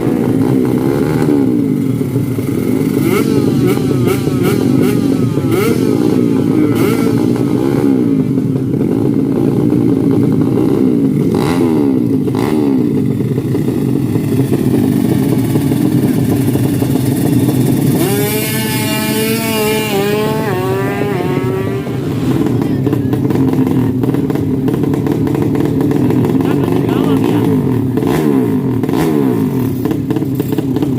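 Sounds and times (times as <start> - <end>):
motorcycle engines revving: 0.0 - 30.9
motorcycle shifting through gears: 0.0 - 30.9.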